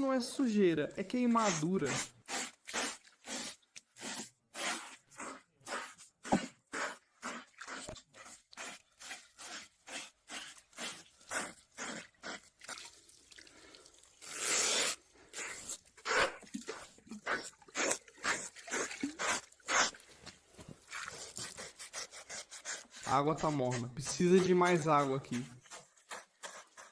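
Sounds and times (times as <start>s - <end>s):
blade scraping skin: 1.3s - 12.8s, 14.2s - 20.0s, 20.9s - 26.9s.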